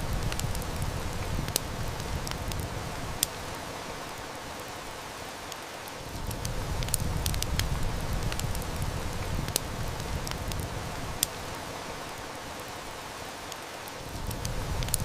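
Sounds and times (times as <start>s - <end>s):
heavy rain hiss: 0.0s - 15.0s
wood fire crackling: 0.0s - 15.0s.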